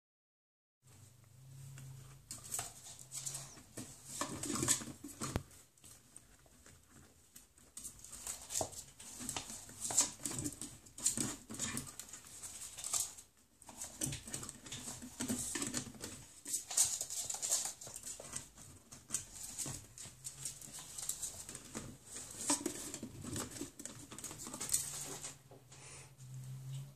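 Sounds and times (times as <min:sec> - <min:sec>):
ferret scratching at a drawer: 0:02.3 - 0:07.2, 0:07.8 - 0:25.4.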